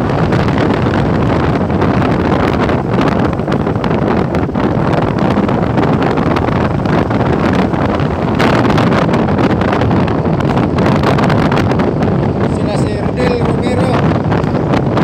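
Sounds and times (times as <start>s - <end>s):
road noise: 0.0s - 15.0s
wind buffeting microphone: 0.0s - 15.0s.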